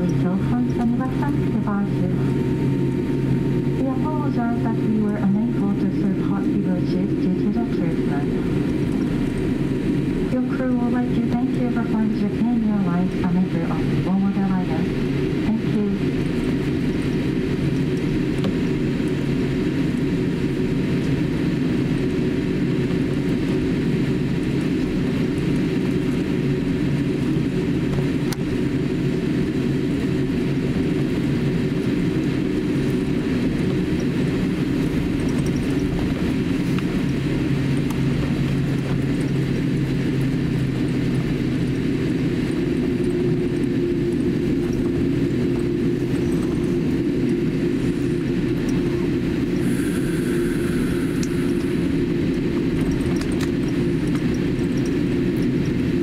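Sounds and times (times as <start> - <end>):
aircraft cabin drone: 0.0 - 56.0.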